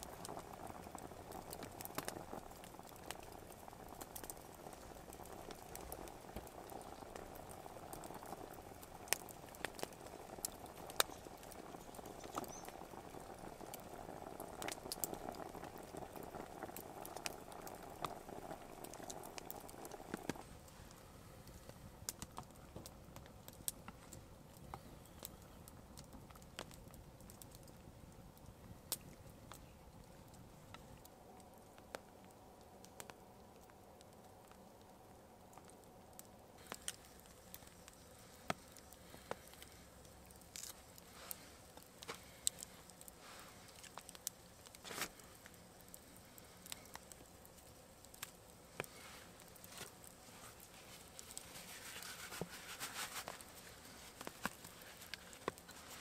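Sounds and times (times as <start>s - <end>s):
stew bubbling in a pot: 0.0s - 56.0s.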